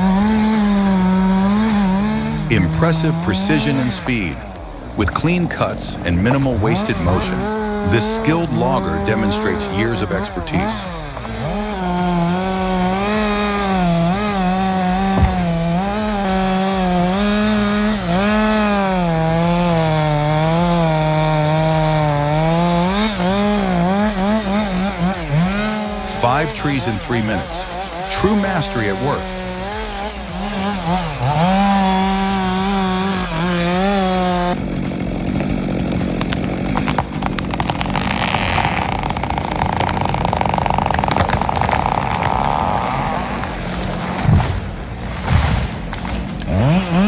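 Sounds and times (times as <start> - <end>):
chainsaw cutting wood: 0.0 - 47.0
tree cracking: 0.0 - 47.0.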